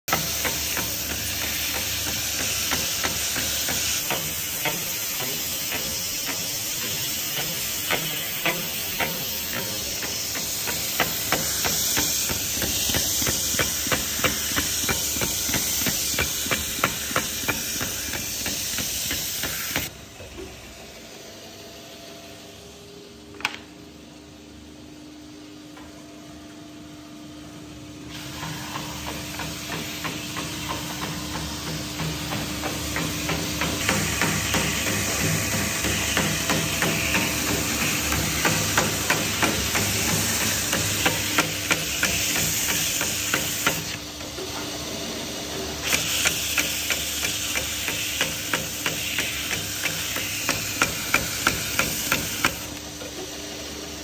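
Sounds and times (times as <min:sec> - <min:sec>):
belt sander hissing on wood: 0:00.1 - 0:19.9, 0:28.2 - 0:44.2, 0:44.8 - 0:54.0.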